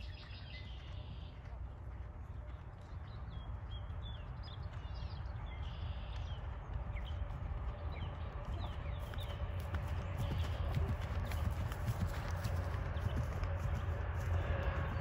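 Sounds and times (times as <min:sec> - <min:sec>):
birds chirping: 0:00.0 - 0:15.0
horse hoofbeats on grass: 0:00.0 - 0:15.0
steady low rumble: 0:00.0 - 0:15.0.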